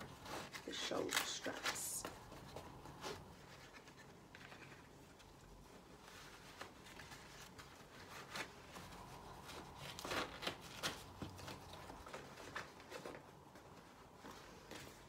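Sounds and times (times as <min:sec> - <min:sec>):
straps rustling: 0:00.0 - 0:15.0.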